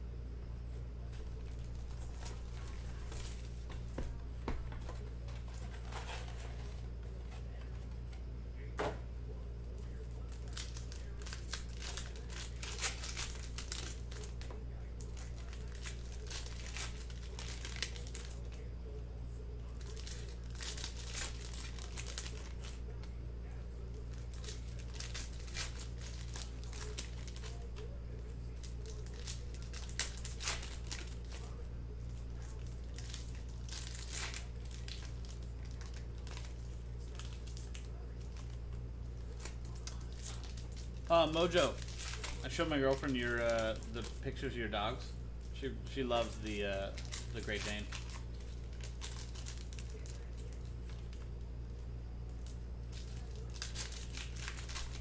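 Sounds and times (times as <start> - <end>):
wrappers crinkling and tearing: 1.0 - 3.9, 4.7 - 8.7, 9.3 - 55.0.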